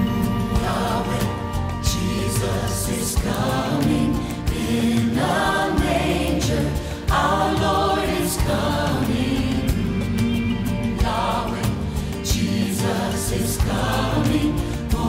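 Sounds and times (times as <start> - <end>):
choir singing worship song: 0.0 - 15.0
instrumental backing: 0.0 - 15.0.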